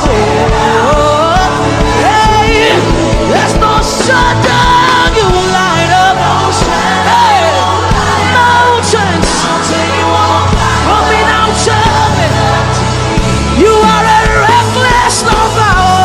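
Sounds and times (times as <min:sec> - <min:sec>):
worship band playing: 0:00.0 - 0:16.0.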